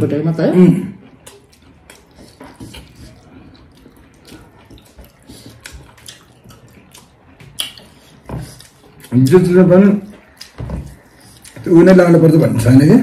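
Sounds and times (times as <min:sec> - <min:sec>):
chewing and mouth clicks: 0:00.9 - 0:12.7.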